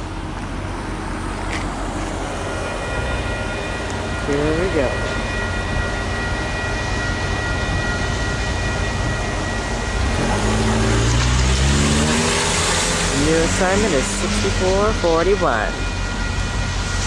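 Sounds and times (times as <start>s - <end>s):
crossing bell ringing: 0.0s - 17.0s
diesel locomotive engine: 0.0s - 17.0s
wheel-on-rail noise: 0.0s - 17.0s.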